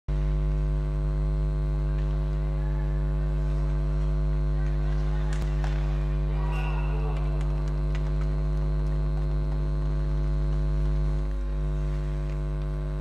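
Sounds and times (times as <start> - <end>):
electrical mains hum: 0.1 - 13.0
faint rink sounds: 1.7 - 13.0.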